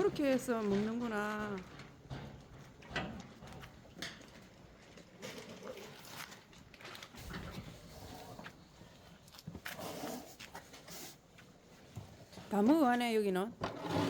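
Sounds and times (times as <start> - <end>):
cattle eating feed: 0.1 - 12.4.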